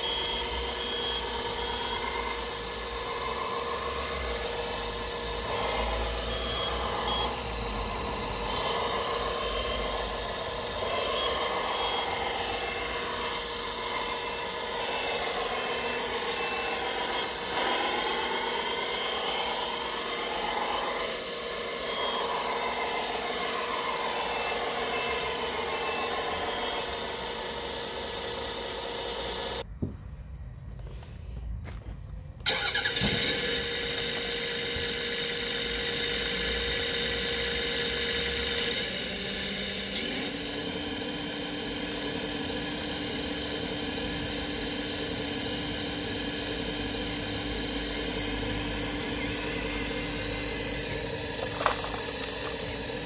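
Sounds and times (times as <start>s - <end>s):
small electric motors whining: 0.0s - 29.7s, 30.4s - 53.0s.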